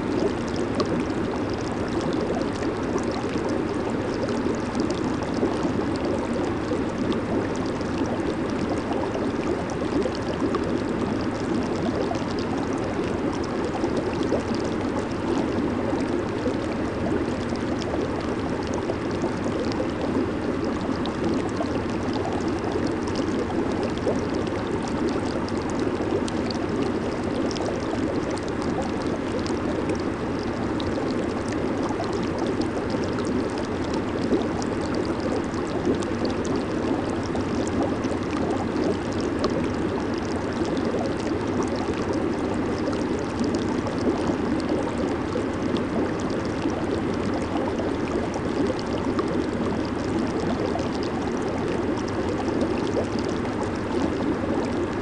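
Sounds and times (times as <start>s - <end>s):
hot tub jets bubbling: 0.0s - 55.0s.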